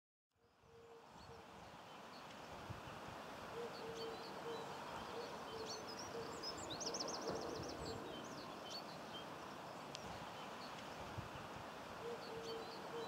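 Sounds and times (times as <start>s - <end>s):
small birds singing: 0.4s - 13.0s
soft steady background hiss: 0.4s - 13.0s.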